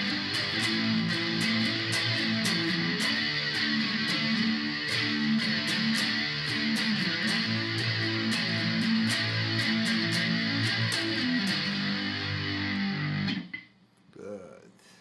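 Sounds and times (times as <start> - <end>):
electric guitar strumming with flanger: 0.0 - 13.6.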